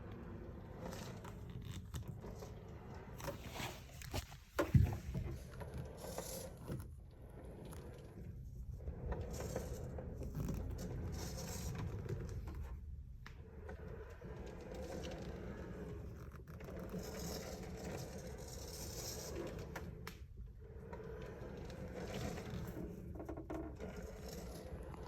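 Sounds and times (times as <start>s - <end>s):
chair base scraping as it swivels: 0.1s - 12.9s, 13.5s - 25.0s.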